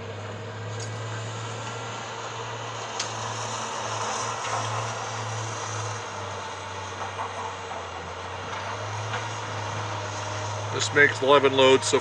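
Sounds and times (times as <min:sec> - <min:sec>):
diesel engine hum: 0:00.0 - 0:12.0.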